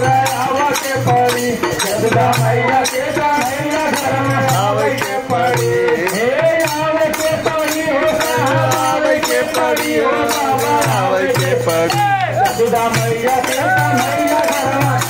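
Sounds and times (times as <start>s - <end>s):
dholak drum beat: 0.0s - 15.0s
hand percussion: 0.0s - 15.0s
man singing into a microphone: 0.0s - 15.0s.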